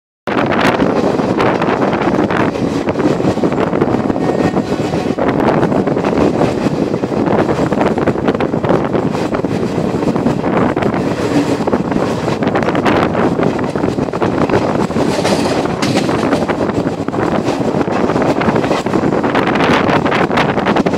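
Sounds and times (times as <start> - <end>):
train wheels rumbling on rails: 0.3 - 20.9
wind on microphone: 0.3 - 20.9.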